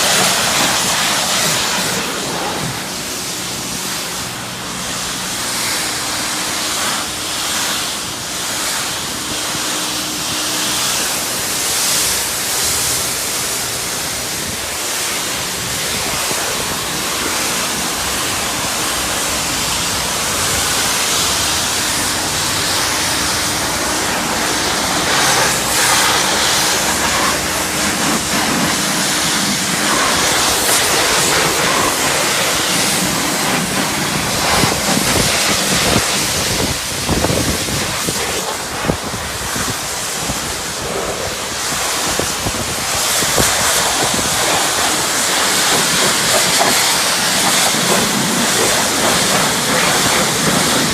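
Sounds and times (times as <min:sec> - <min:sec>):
high-pressure spray hissing: 0:00.0 - 0:50.9.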